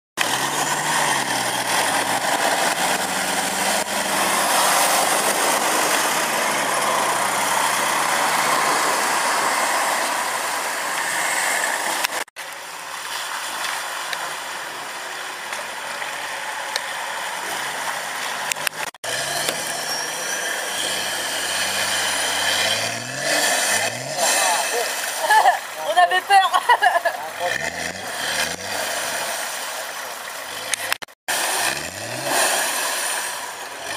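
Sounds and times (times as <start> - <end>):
off-road engines revving: 0.2 - 12.3, 15.7 - 33.9.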